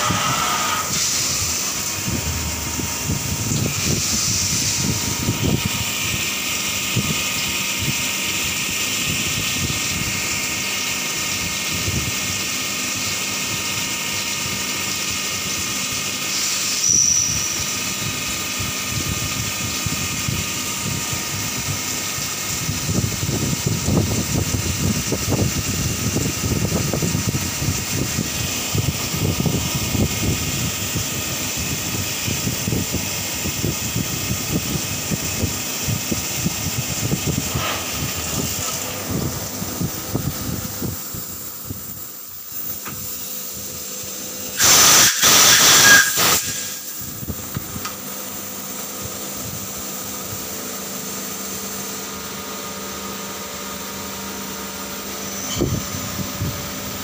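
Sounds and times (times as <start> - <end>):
lathe machine whine and hiss: 0.0 - 57.0.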